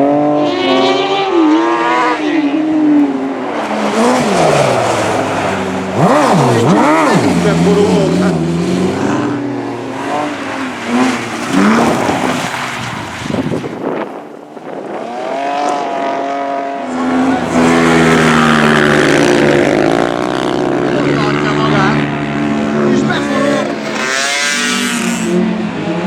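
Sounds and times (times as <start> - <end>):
racing engines revving: 0.0 - 26.0.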